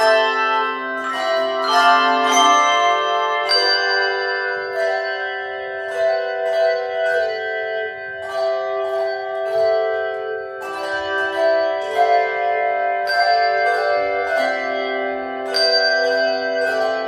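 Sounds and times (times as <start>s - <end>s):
handbells playing slow tune: 0.0s - 17.0s.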